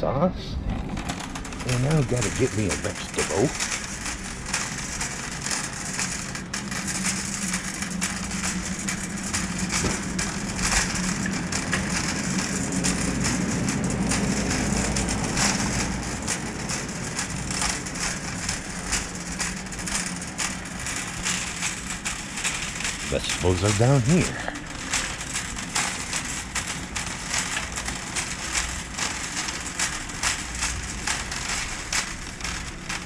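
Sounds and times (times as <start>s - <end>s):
shopping cart wheels rolling: 0.6s - 33.0s.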